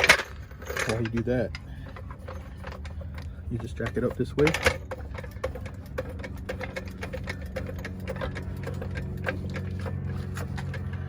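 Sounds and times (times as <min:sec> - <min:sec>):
jack pumping clicks: 0:00.0 - 0:11.0
steady low hum: 0:00.0 - 0:11.0.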